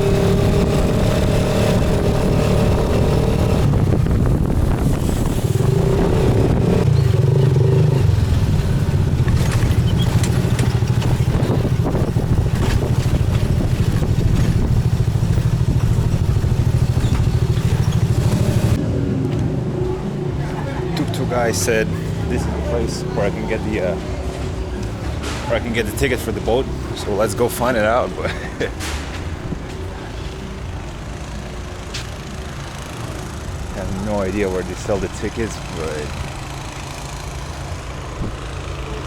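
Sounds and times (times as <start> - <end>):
rickshaw engine running: 0.0 - 39.0.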